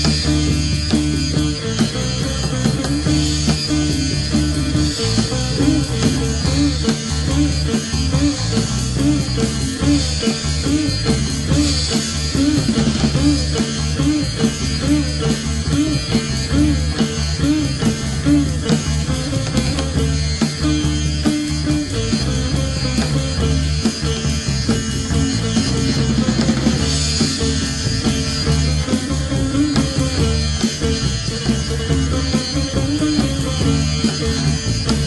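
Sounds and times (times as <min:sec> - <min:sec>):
drums: 0:00.0 - 0:35.0
plucked string lead with pitch bends: 0:00.0 - 0:35.0
steady bass: 0:00.0 - 0:35.0.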